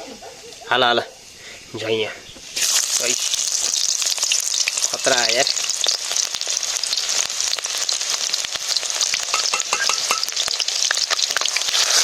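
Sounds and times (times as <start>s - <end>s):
food frying in hot oil: 2.3s - 12.0s.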